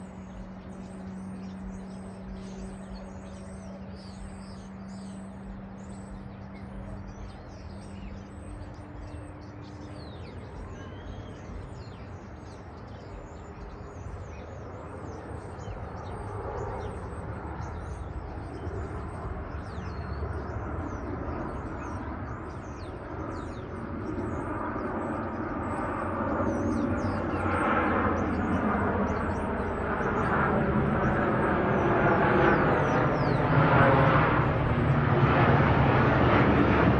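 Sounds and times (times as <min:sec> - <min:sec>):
aircraft taking off: 0:00.0 - 0:36.9
birds chirping: 0:00.0 - 0:36.9.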